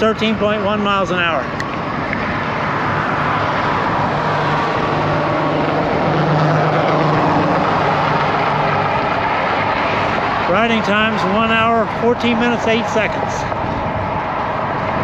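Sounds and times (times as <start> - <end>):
highway traffic passing: 0.0 - 15.0
wind buffeting microphone: 0.0 - 15.0.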